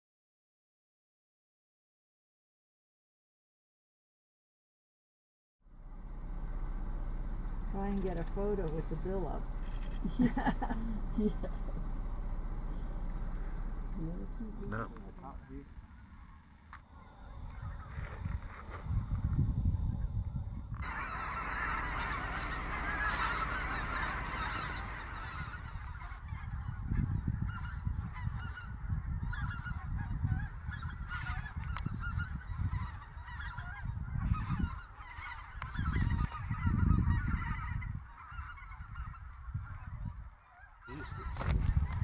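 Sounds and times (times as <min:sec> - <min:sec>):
low rumble gusts: 0:05.6 - 0:42.0
geese honking in flight: 0:05.8 - 0:19.2, 0:19.8 - 0:42.0.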